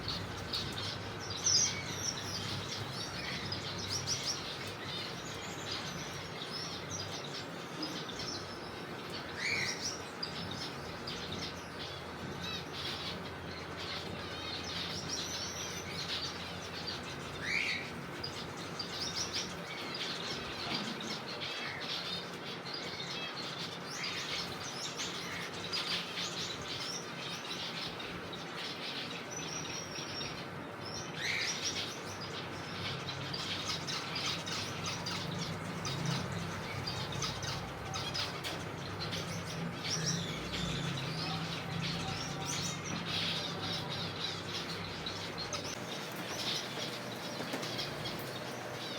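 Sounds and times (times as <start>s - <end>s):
finches chirping: 0.0s - 48.9s.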